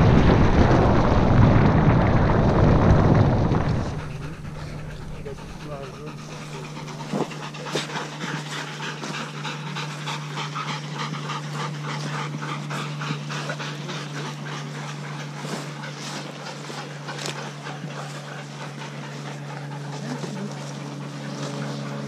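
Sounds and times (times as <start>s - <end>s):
low hum: 0.0s - 22.0s
dogs panting: 3.1s - 22.0s.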